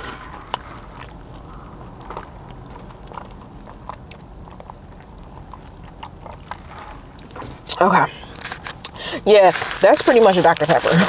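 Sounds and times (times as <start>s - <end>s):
person chewing: 0.0s - 9.8s.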